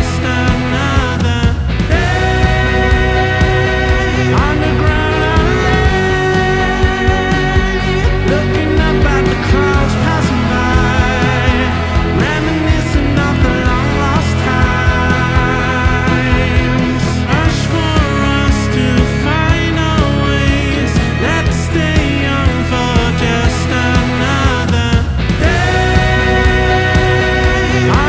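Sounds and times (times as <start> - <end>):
steady drum beat: 0.0 - 28.0.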